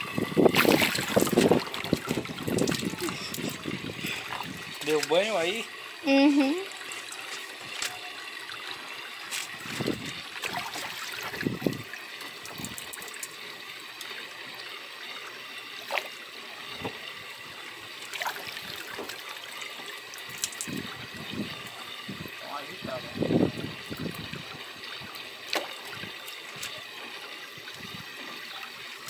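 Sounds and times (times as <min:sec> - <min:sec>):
water splashing in fish tank: 0:00.0 - 0:06.0, 0:06.6 - 0:29.0.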